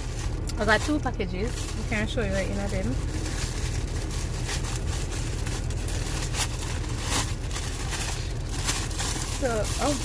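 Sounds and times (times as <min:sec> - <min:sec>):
low rumble: 0:00.0 - 0:10.0
plastic package crinkling: 0:00.0 - 0:10.0.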